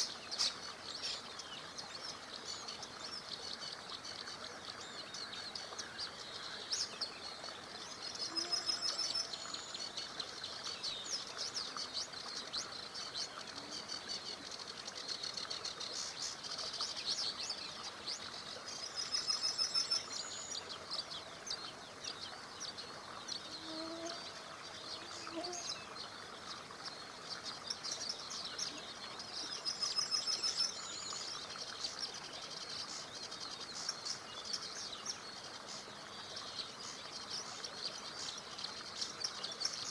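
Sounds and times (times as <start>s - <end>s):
river murmuring: 0.0s - 39.9s
small birds chirping: 0.0s - 39.9s.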